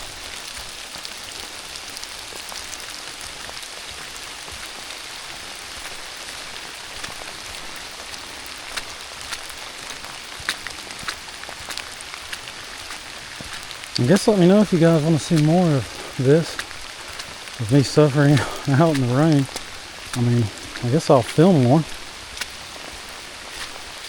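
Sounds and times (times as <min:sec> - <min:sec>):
rain falling in woods: 0:00.0 - 0:24.0
sharp raindrop ticks: 0:00.0 - 0:24.0.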